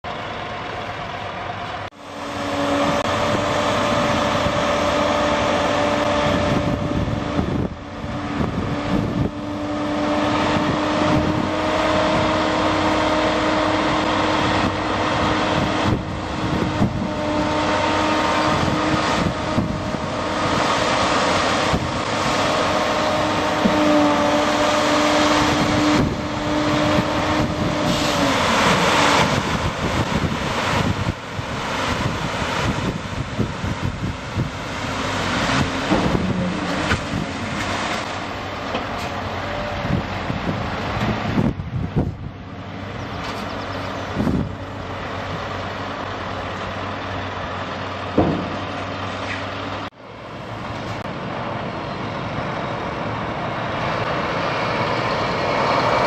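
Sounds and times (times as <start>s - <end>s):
truck engine running: 0.0s - 56.0s
hydraulic pump whining: 2.2s - 49.9s.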